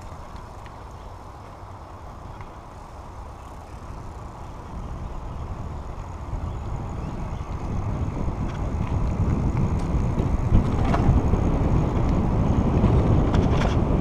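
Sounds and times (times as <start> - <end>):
bicycle rolling noise: 0.0 - 14.0
wind buffeting microphone: 0.0 - 14.0.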